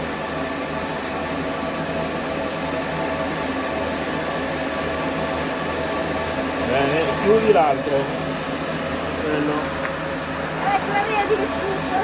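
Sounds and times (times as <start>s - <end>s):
electric suction pump whirring: 0.0s - 12.0s.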